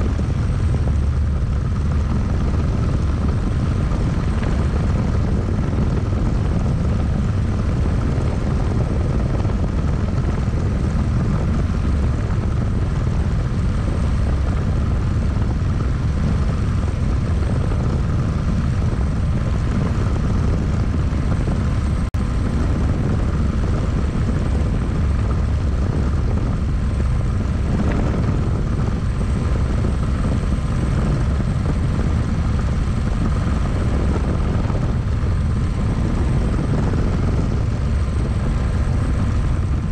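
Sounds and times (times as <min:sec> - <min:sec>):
helicopter low rumble: 0:00.0 - 0:39.9.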